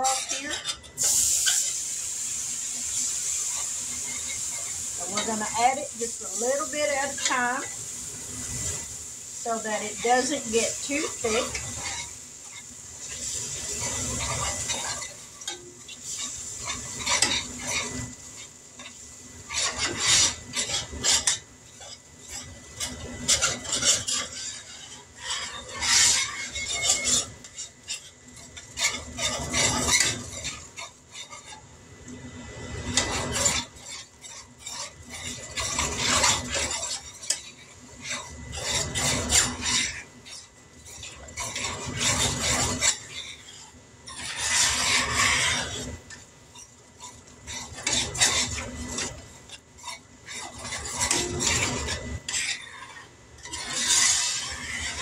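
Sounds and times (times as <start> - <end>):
pan sizzling: 0.0 - 55.0
utensil scraping skillet: 0.0 - 55.0.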